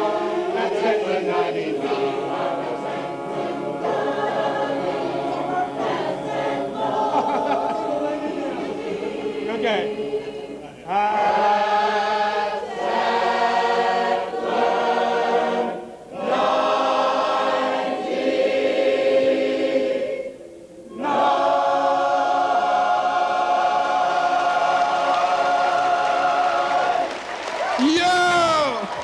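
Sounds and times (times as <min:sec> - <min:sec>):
choir singing: 0:00.0 - 0:27.4.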